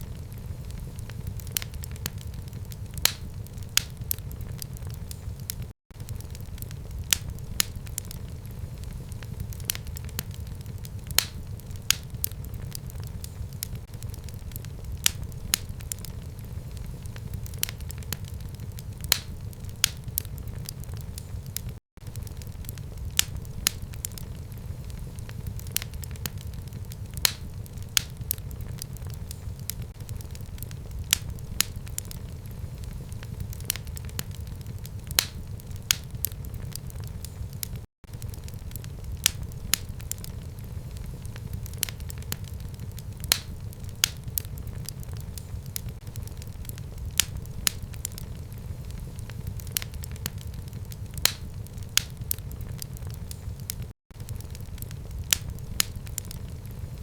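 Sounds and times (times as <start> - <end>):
fire crackling in fireplace: 0.0 - 57.0.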